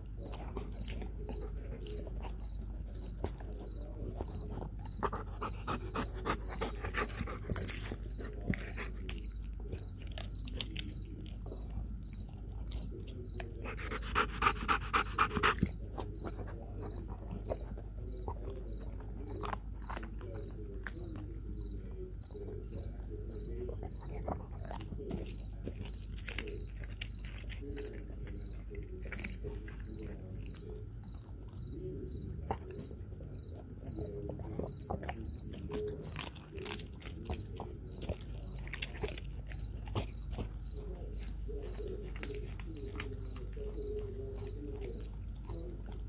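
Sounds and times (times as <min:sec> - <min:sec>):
dog chewing and crunching: 0:00.0 - 0:46.0
dog panting: 0:00.0 - 0:46.0.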